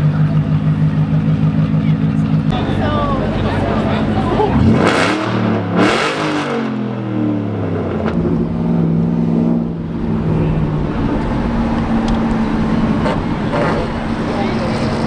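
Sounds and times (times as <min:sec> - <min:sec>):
car exhaust drone: 0:00.0 - 0:15.0
road and wind noise: 0:00.0 - 0:15.0.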